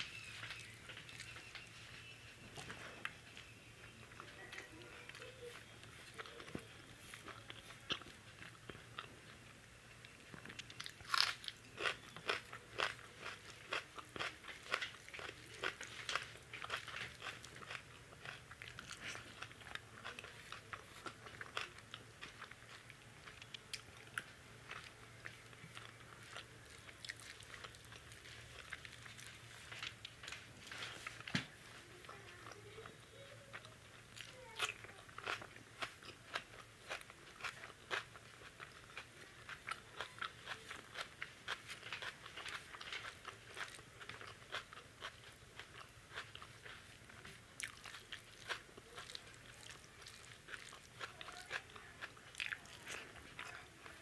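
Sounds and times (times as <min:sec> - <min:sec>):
person chewing food: 0:00.1 - 0:54.0.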